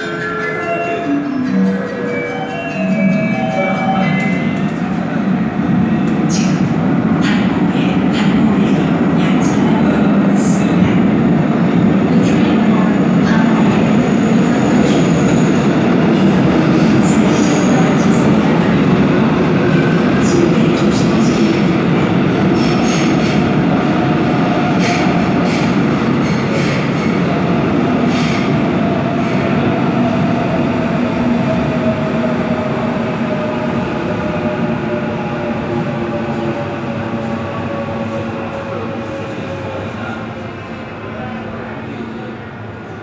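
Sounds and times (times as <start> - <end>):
train rumbling into station: 0.0 - 43.0.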